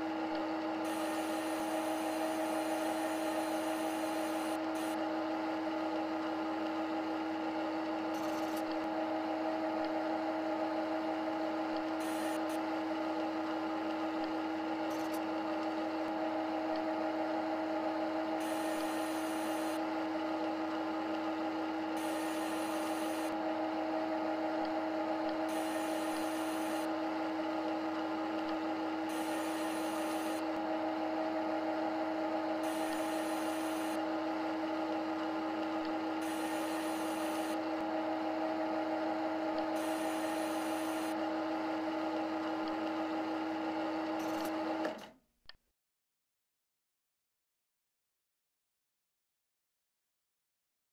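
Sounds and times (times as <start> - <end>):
lathe machining hum: 0.0 - 45.0.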